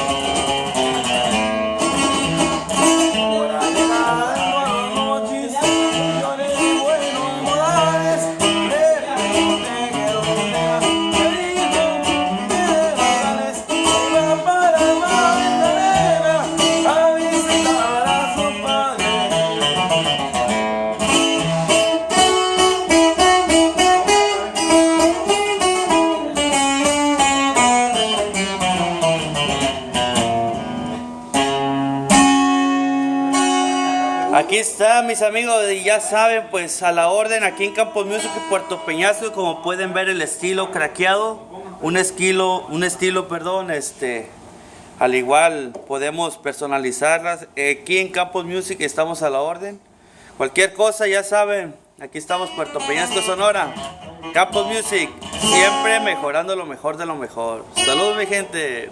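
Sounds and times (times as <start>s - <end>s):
solo guitar melody: 0.0s - 44.8s, 51.8s - 58.9s.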